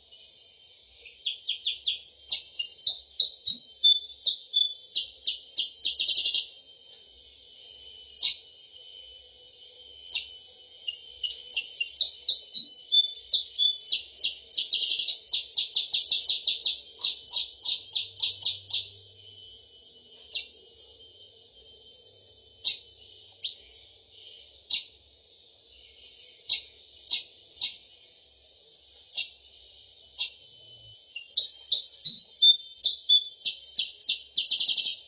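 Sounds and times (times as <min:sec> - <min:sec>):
high songbird chirps: 0:00.0 - 0:35.0
high-pitched hiss: 0:00.0 - 0:35.0.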